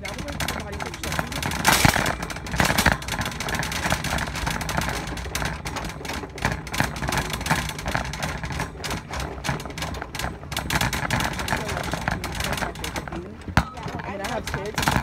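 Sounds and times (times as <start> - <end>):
shopping cart rattling: 0.0 - 15.0.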